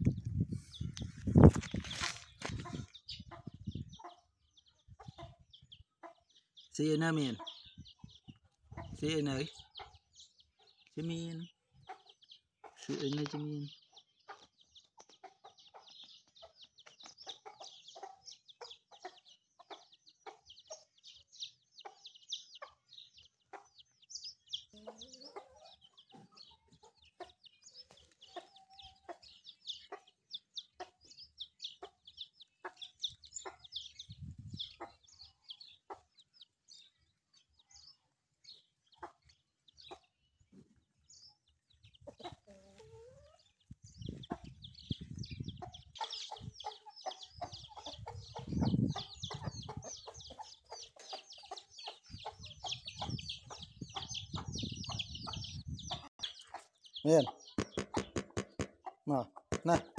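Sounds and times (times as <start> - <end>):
chickens chirping: 0.0 - 59.9
chickens clucking: 0.0 - 59.9.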